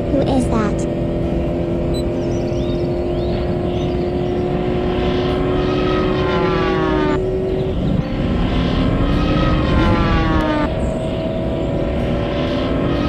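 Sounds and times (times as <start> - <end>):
cartoon engine drone: 0.0 - 13.0
falling pitch whine: 1.0 - 13.0.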